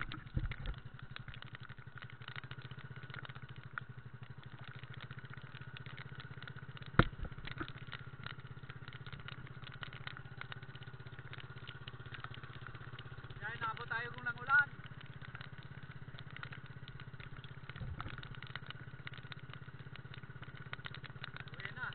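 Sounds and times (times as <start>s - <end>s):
boat engine puttering: 0.0s - 21.9s.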